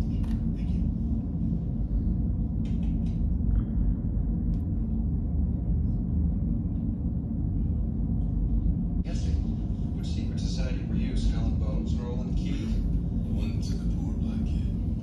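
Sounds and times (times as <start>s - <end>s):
low hum: 0.0s - 15.0s
steady low rumble: 0.0s - 15.0s.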